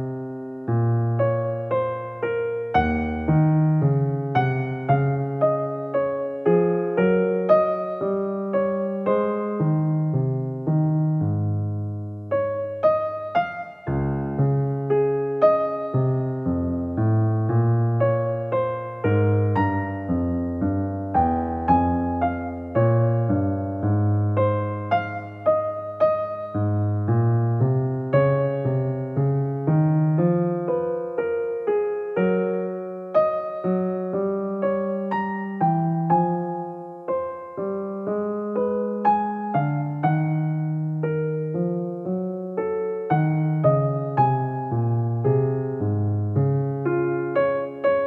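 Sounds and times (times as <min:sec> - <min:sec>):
solo piano music: 0:00.0 - 0:48.0.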